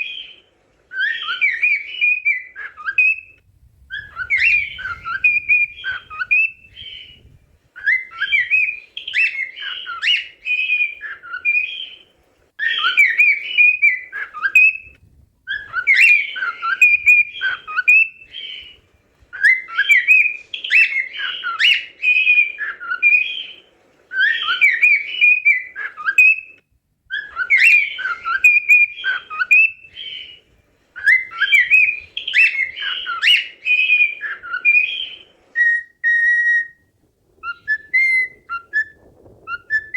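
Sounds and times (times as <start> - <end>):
cockatiel whistling song: 0.0 - 39.9.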